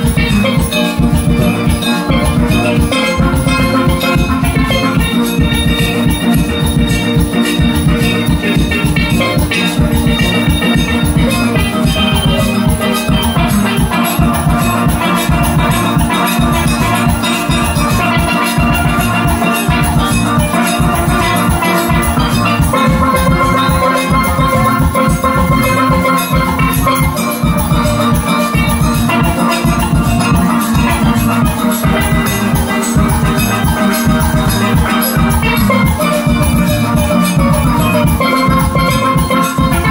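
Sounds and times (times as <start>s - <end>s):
drum and percussion beat: 0.0s - 39.9s
steelpans playing melody: 0.0s - 39.9s.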